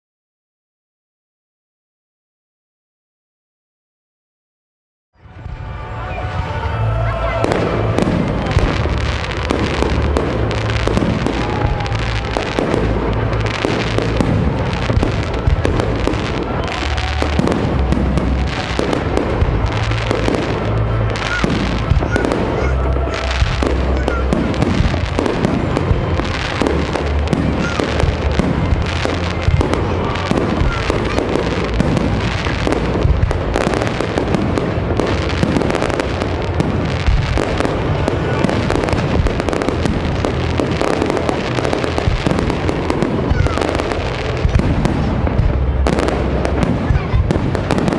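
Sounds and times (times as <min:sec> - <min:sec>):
fireworks bursts and crackling: 0:05.2 - 0:47.9
music with deep bass line: 0:06.3 - 0:47.9.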